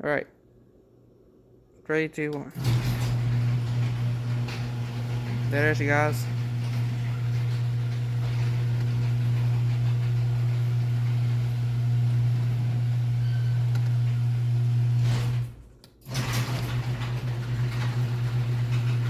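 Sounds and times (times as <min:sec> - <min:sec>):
garage door opener motor humming: 0:02.6 - 0:19.0.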